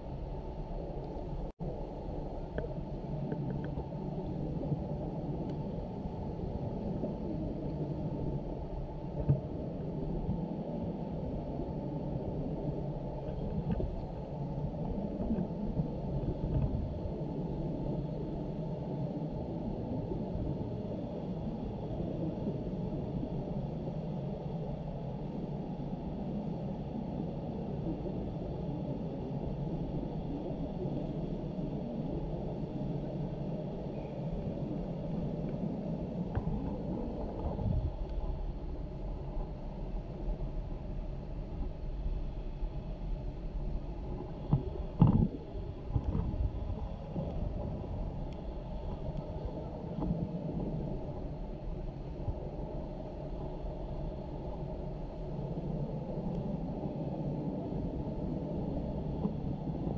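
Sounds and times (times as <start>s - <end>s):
muffled low rumble: 0.0s - 59.9s.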